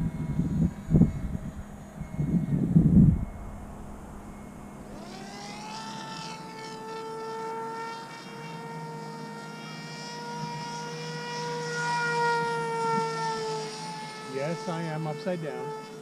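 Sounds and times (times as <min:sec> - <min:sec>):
model plane electric motor whining: 0:00.0 - 0:16.0.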